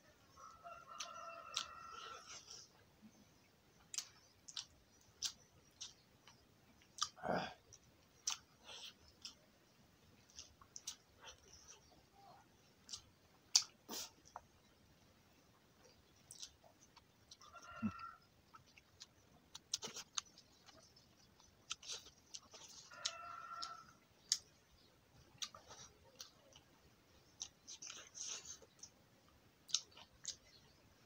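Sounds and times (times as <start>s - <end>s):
man chewing and lip smacking: 0.9s - 9.4s, 10.0s - 31.0s.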